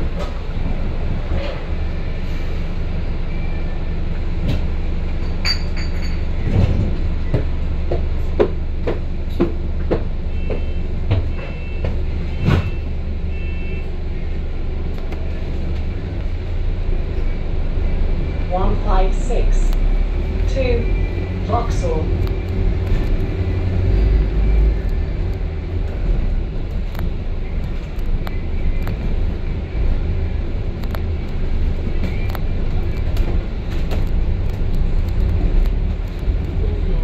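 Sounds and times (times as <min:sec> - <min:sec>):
bus engine drone: 0:00.0 - 0:37.0.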